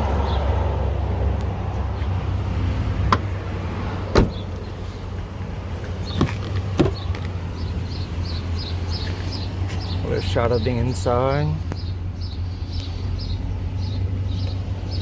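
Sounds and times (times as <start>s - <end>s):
vehicle low rumble: 0.0s - 15.0s.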